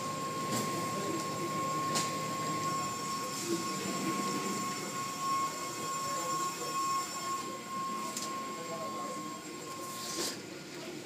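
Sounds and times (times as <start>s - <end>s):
high whine: 0.0s - 10.1s.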